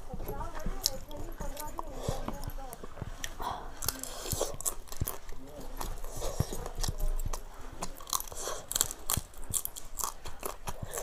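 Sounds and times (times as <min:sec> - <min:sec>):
person chewing and crunching food: 0:00.0 - 0:11.0.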